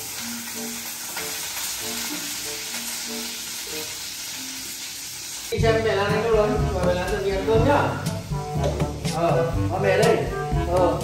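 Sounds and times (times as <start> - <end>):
faint background music: 0.0 - 11.0
food sizzling in a pan: 0.0 - 11.0.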